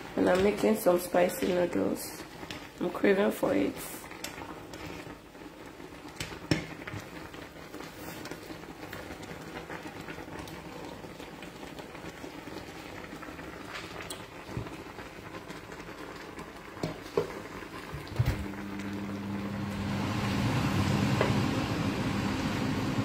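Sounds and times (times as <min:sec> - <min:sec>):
water bubbling in saucepan: 0:00.0 - 0:23.0.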